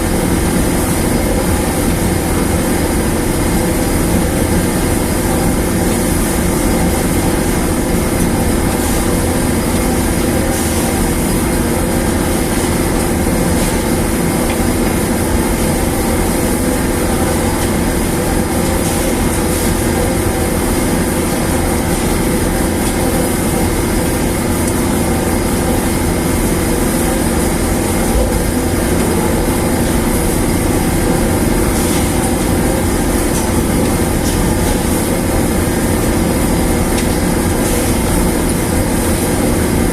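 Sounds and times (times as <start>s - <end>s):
dryer machine humming: 0.0s - 39.9s.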